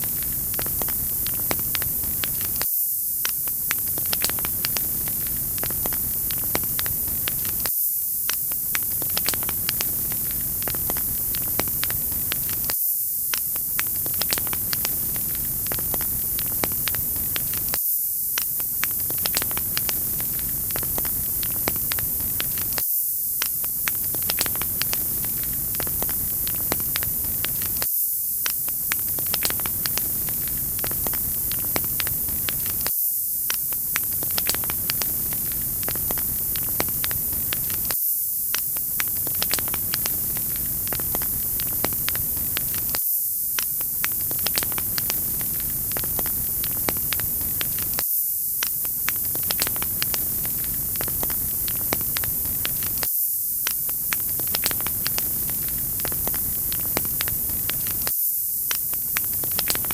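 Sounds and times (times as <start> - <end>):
wood fire crackling: 0.0 - 2.6, 3.2 - 7.7, 8.3 - 12.7, 13.3 - 17.8, 18.4 - 22.8, 23.4 - 32.9, 33.5 - 43.0, 43.6 - 48.0, 48.6 - 58.1, 58.7 - 59.9.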